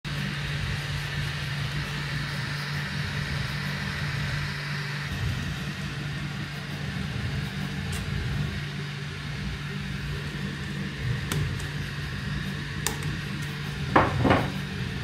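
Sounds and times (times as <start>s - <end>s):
printer fans and motors whirring: 0.1s - 15.0s.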